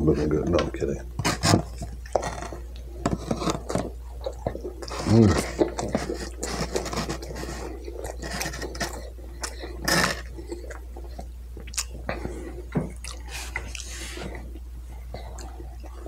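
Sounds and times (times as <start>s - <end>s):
person chewing food: 1.2s - 16.0s.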